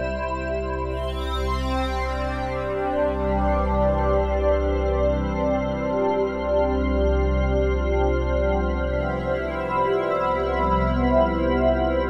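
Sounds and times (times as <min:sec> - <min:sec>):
ambient music with held chords: 0:00.0 - 0:12.0.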